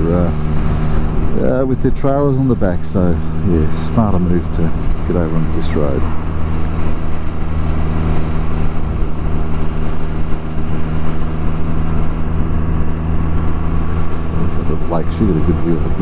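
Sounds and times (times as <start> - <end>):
motorcycle engine drone: 0.0 - 16.0
wind and road rush: 0.0 - 16.0.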